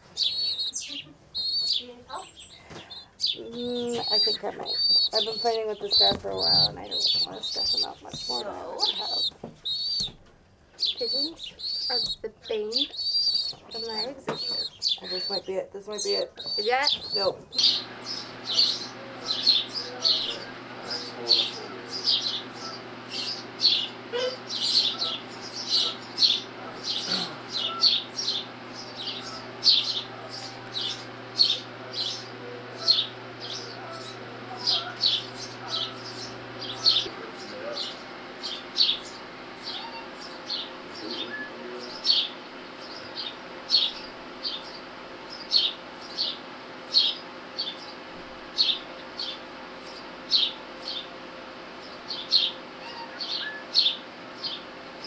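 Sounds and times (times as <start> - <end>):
nestling birds chirping: 0.0 - 55.0
steady low hum: 0.0 - 55.0.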